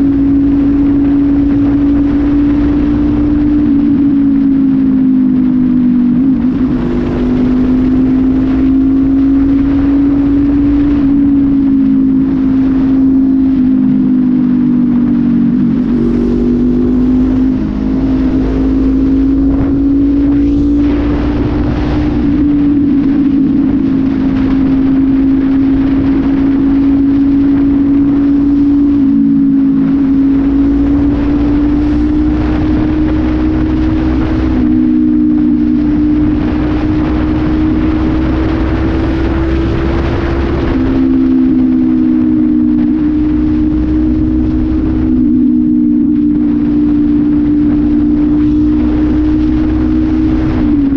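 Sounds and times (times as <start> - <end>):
motorcycle engine cruising: 0.0 - 50.9.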